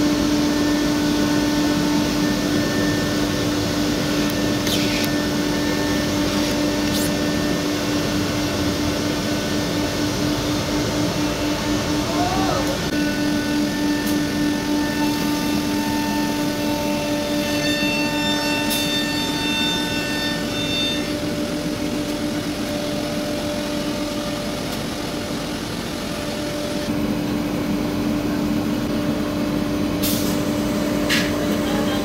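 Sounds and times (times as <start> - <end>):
machinery humming and whining: 0.0 - 32.0.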